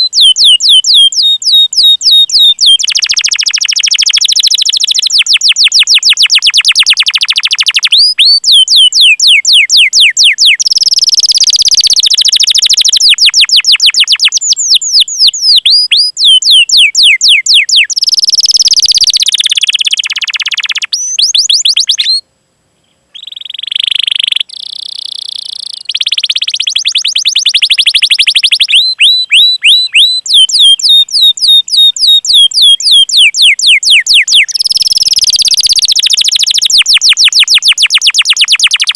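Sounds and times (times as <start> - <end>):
canary singing: 0.0 - 22.2, 23.1 - 38.9.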